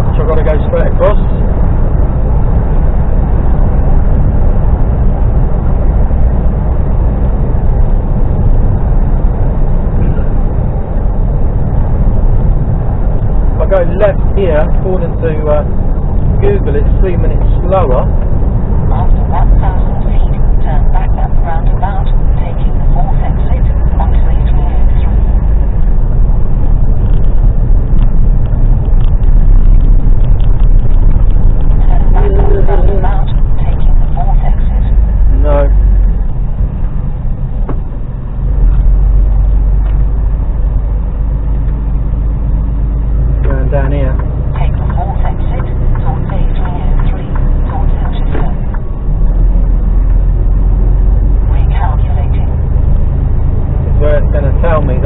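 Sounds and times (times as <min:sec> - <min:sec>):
lorry engine and road noise: 0:00.0 - 0:55.0.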